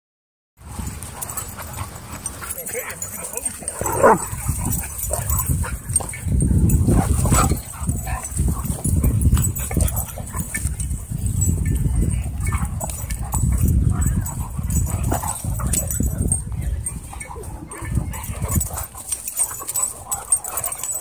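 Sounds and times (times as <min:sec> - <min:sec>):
dogs growling and snarling: 0:00.6 - 0:21.0
paws scuffling on grass: 0:00.6 - 0:21.0.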